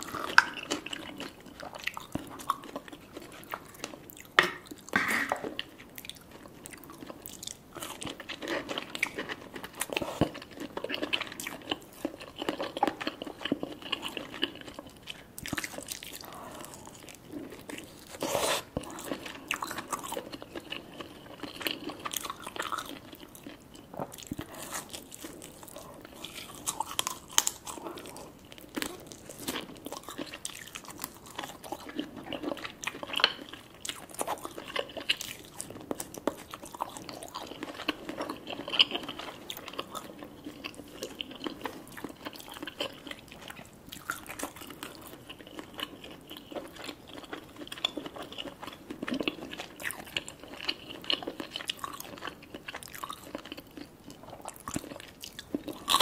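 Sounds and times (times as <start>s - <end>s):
person chewing with wet clicks: 0.0s - 56.0s.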